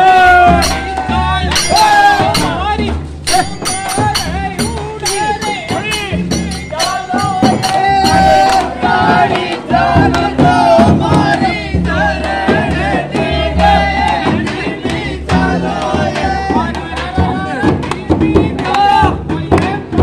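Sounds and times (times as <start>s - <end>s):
crowd noise: 0.0s - 19.2s
frame drums beating: 0.0s - 20.0s
men singing as a group: 0.0s - 20.0s.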